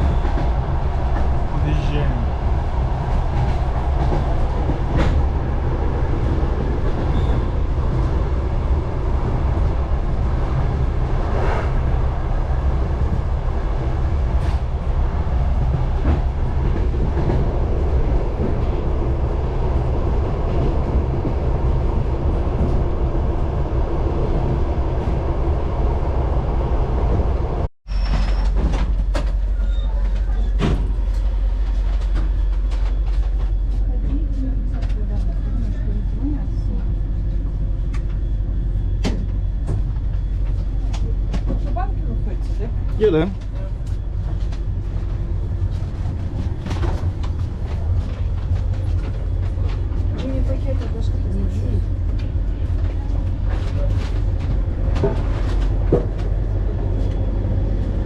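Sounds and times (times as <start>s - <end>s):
railway car rumbling on track: 0.0s - 58.0s.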